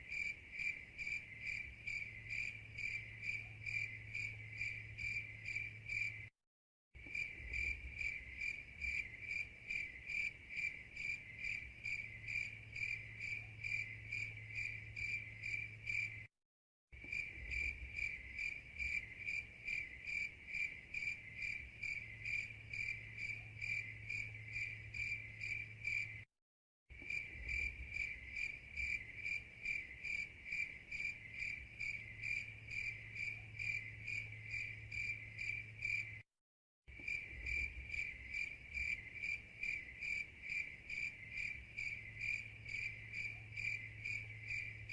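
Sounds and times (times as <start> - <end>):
crickets chirping: 0.0 - 6.3, 7.0 - 16.3, 17.0 - 26.3, 27.0 - 36.3, 36.9 - 44.9.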